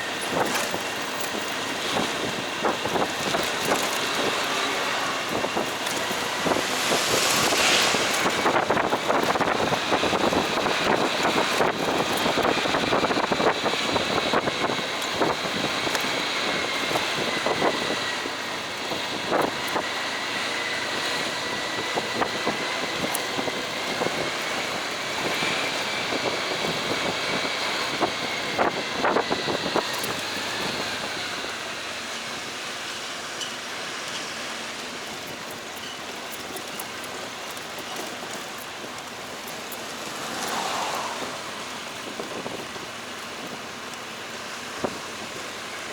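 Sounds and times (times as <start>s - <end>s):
motorcycle riding: 0.0s - 45.9s
road and wind noise: 0.0s - 45.9s.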